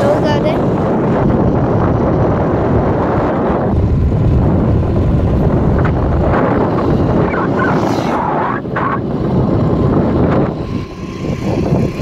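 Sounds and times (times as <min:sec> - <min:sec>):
scooter engine running: 0:00.0 - 0:12.0
wind buffeting microphone: 0:00.0 - 0:12.0.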